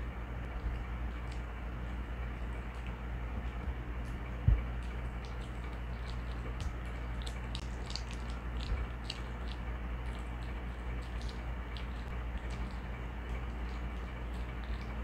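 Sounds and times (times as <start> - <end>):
dog chewing a soft treat: 0.4 - 15.0.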